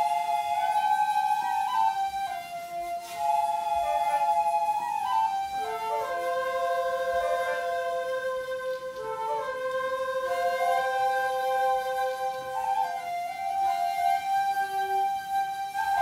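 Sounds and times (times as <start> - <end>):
bamboo flute music: 0.0 - 16.0.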